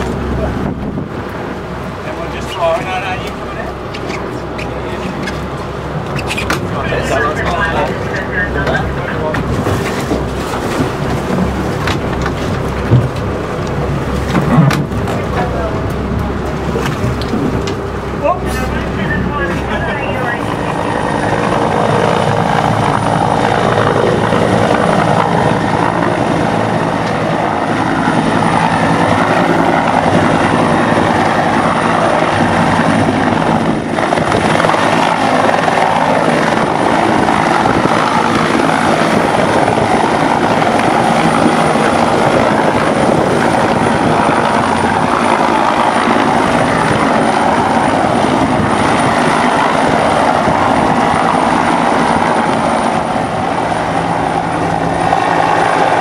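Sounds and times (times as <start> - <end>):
helicopter hovering: 0.0 - 56.0.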